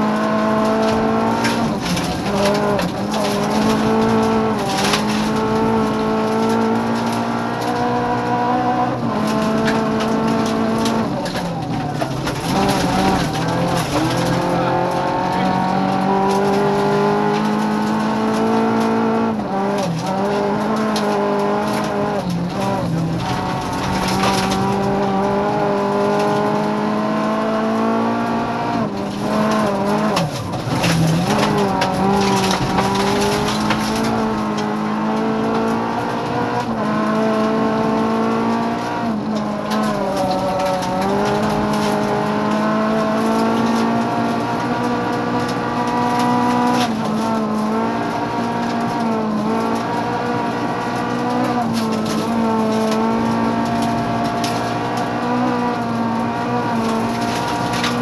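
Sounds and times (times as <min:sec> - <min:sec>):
gravel clattering under car: 0:00.0 - 0:27.0, 0:27.7 - 0:58.0
car engine at high revs: 0:00.0 - 0:58.0.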